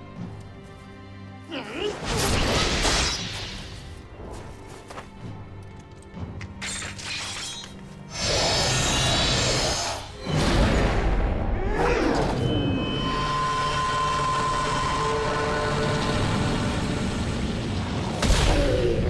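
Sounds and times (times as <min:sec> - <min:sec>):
dramatic film score: 0:00.0 - 0:19.0.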